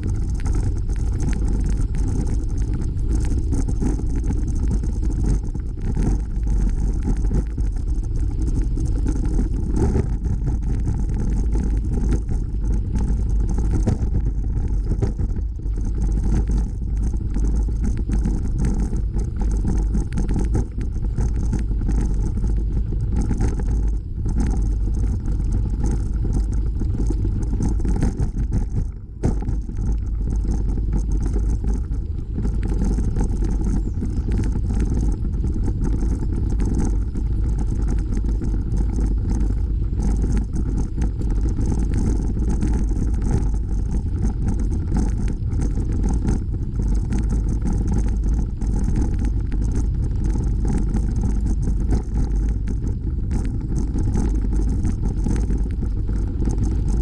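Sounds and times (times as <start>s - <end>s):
bicycle tyres rolling on gravel: 0.0s - 57.0s
wind buffeting the microphone: 0.0s - 57.0s.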